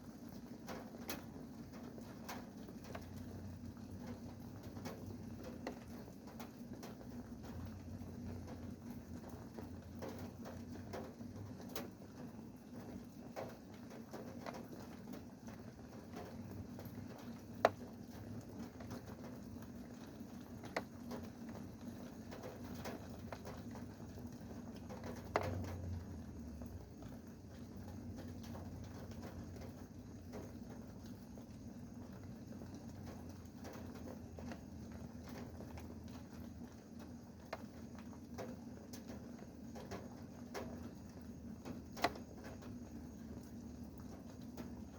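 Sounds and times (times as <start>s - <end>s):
rain dripping: 0.0s - 44.9s.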